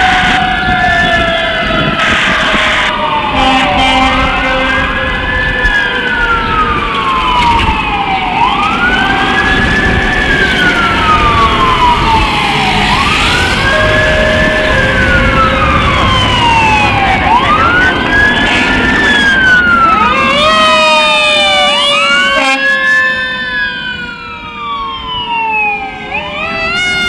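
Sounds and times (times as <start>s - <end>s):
second quicker siren: 0.0s - 23.6s
fire truck siren wailing: 0.0s - 27.0s
low traffic noise: 0.0s - 27.0s.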